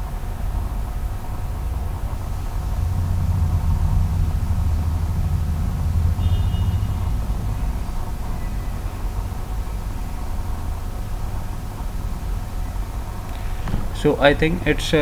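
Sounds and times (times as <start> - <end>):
low machine rumble: 0.0 - 15.0.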